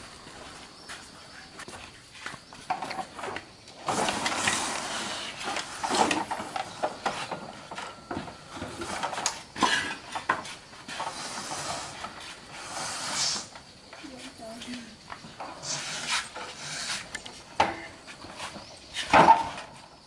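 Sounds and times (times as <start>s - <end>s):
tyres rolling on wet concrete: 2.6s - 19.9s.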